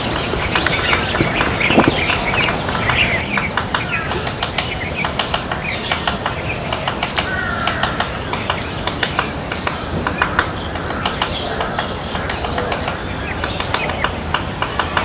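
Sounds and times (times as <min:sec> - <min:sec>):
birds calling: 0:00.0 - 0:15.0
woodpecker tapping on wood: 0:00.0 - 0:15.0.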